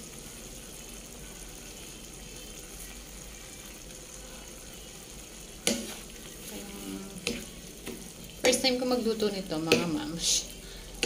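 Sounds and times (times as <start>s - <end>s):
sauce sizzling in a frying pan: 0.0s - 11.0s.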